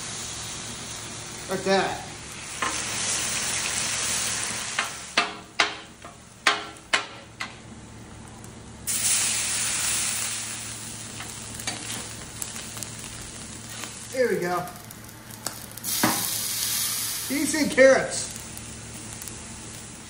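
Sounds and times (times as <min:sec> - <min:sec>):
food sizzling on a griddle: 0:00.0 - 0:06.9, 0:08.3 - 0:20.0.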